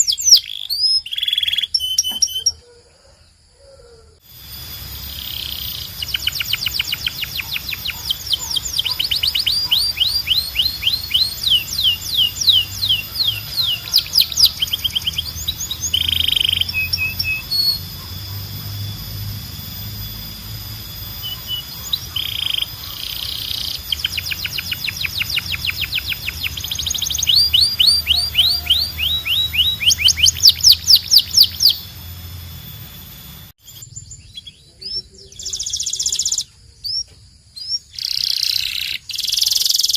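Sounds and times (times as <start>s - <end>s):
canary singing trills: 0.0s - 2.8s, 3.8s - 39.9s.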